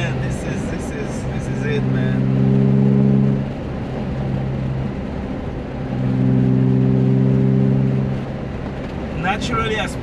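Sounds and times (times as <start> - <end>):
car engine and exhaust: 0.0 - 10.0.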